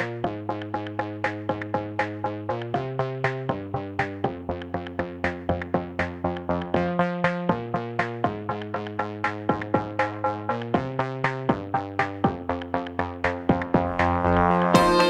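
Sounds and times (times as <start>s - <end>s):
electronic music with plucked synth: 0.0s - 15.0s.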